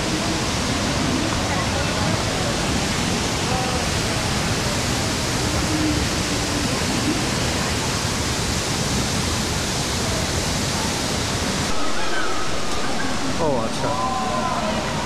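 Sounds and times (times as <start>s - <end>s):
river pouring over rocks: 0.0s - 15.0s
waterfall roaring: 0.0s - 15.0s.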